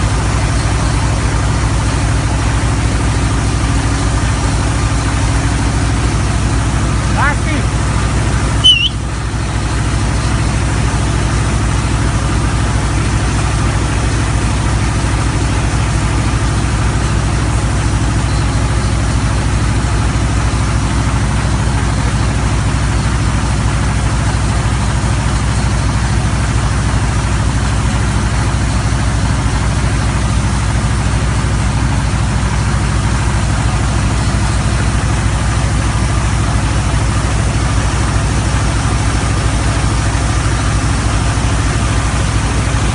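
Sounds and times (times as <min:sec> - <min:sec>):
drilling rig engine running: 0:00.0 - 0:42.9.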